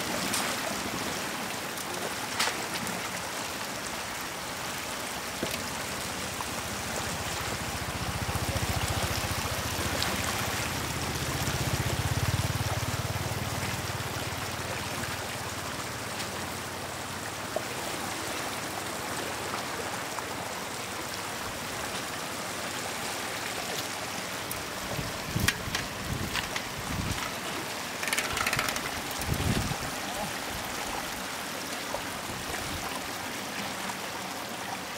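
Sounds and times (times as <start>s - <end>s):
floodwater rushing and trickling: 0.0s - 34.9s.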